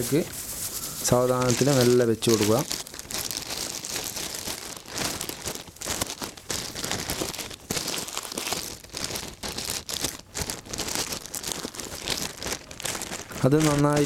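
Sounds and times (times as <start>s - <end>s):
dry straw rustling: 0.0s - 14.0s
plastic bag crinkling: 0.0s - 14.0s.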